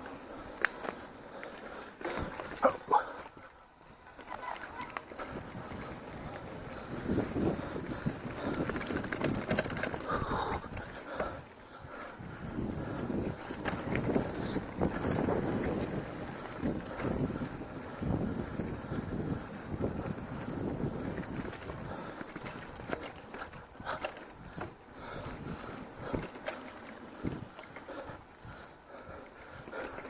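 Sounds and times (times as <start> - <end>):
bike chain and frame rattling: 0.0 - 30.0
bike tyres on dirt: 0.0 - 30.0.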